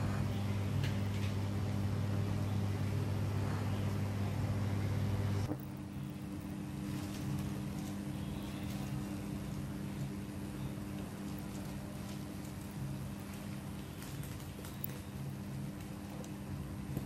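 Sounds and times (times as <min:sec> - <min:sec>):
machine hum: 0:00.0 - 0:17.0
quieter higher hum: 0:00.0 - 0:17.0.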